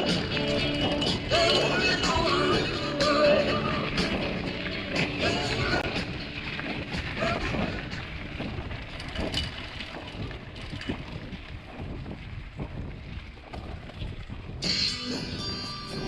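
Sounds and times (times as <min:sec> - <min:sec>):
bike knocks and rattles: 0:00.0 - 0:15.0
wind rumbling on microphone: 0:00.0 - 0:16.0.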